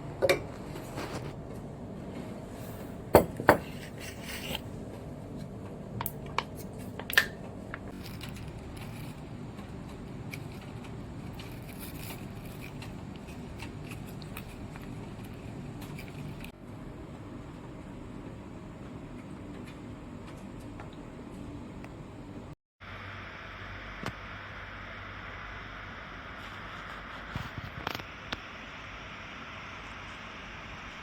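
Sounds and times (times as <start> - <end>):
low room noise: 0.0 - 31.0.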